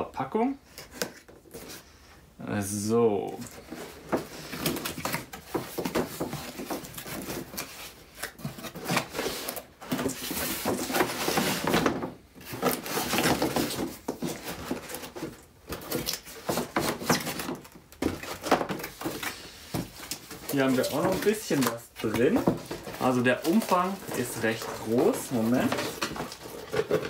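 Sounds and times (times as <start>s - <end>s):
cardboard rustles and knocks: 3.6s - 27.0s.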